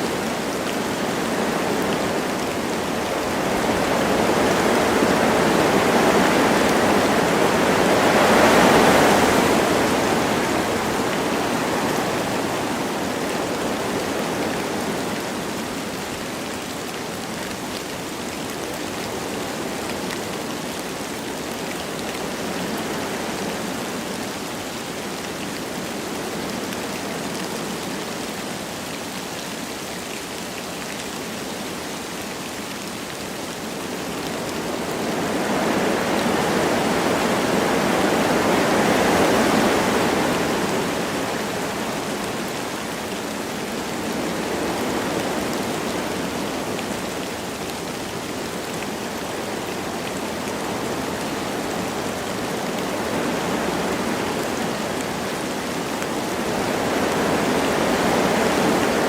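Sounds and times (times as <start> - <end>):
light rain falling: 0.0 - 59.0
wind through forest trees: 0.0 - 59.0.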